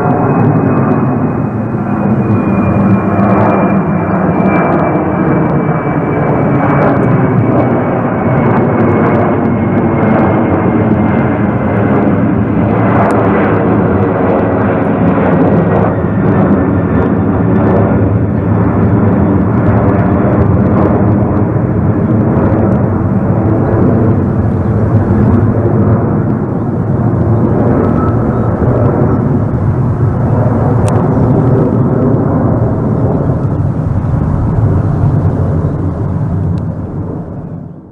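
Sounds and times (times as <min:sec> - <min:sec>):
high whine falling in pitch: 0:00.0 - 0:37.9
jet engines running: 0:00.0 - 0:37.9.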